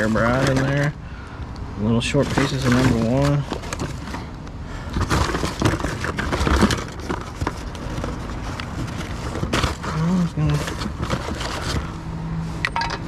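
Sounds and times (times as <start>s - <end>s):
hands rummaging through scrap metal: 0.0s - 1.0s, 2.0s - 12.0s.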